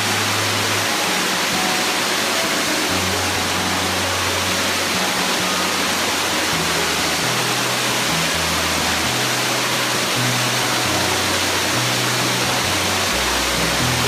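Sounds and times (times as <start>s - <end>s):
music with low held notes: 0.0s - 14.0s
waterfall rushing: 0.0s - 14.0s.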